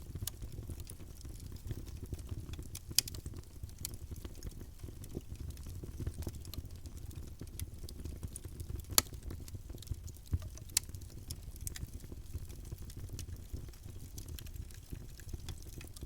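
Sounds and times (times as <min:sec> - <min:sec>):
burning wood crackling and popping: 0:00.0 - 0:16.0
campfire flames rumbling: 0:00.0 - 0:16.0.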